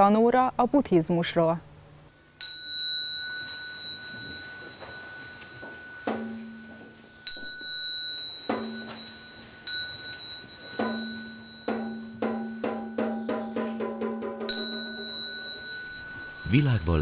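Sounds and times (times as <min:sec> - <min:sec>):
bright bell struck: 0:02.4 - 0:17.0.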